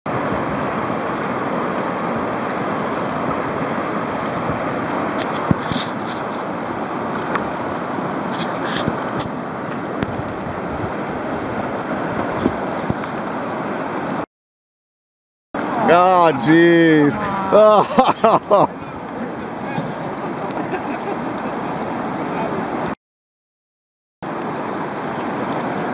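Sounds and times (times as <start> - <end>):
whitewater rapids rushing: 0.1 - 14.2, 15.6 - 23.0, 24.2 - 25.9.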